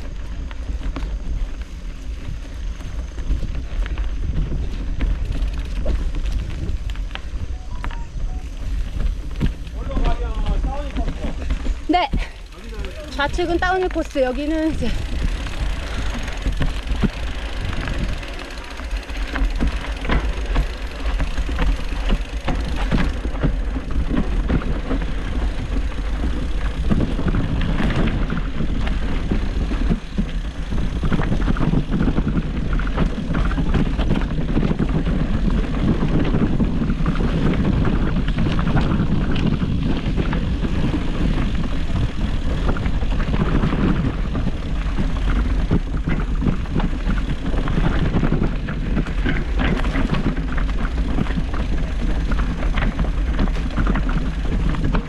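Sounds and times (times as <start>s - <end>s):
bike rattling and knocking: 0.0s - 55.0s
bike tyre noise: 0.0s - 55.0s
wind rumble on microphone: 0.0s - 55.0s.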